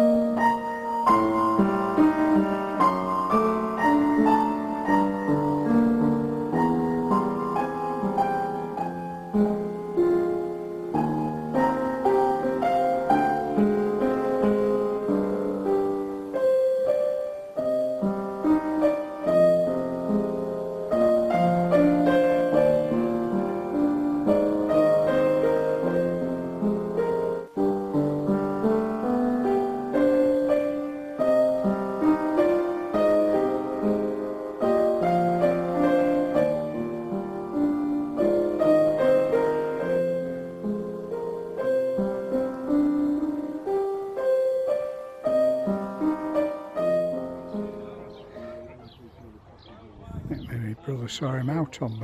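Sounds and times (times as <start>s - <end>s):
gentle piano melody: 0.0s - 49.8s.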